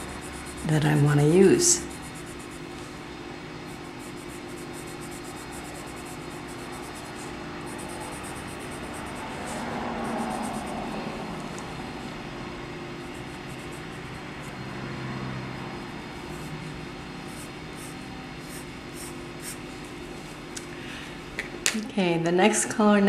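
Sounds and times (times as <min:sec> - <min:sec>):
colored pencil scratching on paper: 0:00.0 - 0:03.0, 0:03.6 - 0:12.2, 0:12.8 - 0:20.4
background hum and hiss: 0:00.0 - 0:23.0.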